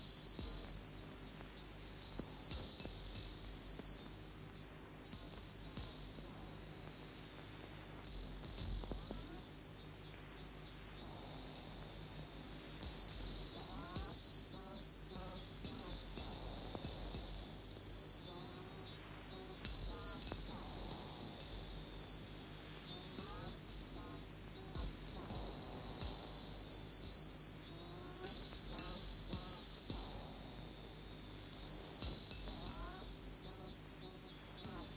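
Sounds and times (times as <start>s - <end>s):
insects chirring: 0.0s - 34.9s.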